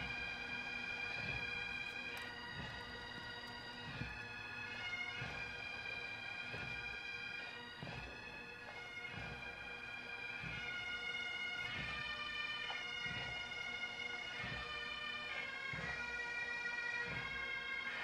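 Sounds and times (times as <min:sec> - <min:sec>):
bagpipes playing slow tune: 0:00.0 - 0:18.0.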